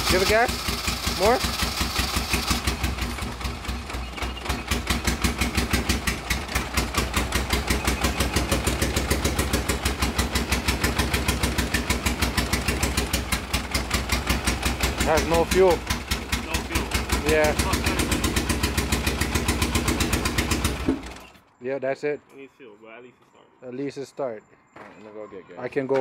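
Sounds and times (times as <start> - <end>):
engine cranking on starter: 0.0 - 21.5.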